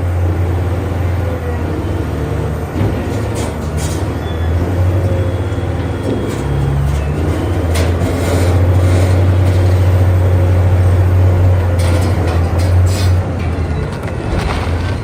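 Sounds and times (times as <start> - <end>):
diesel engine droning under load: 0.0 - 15.0.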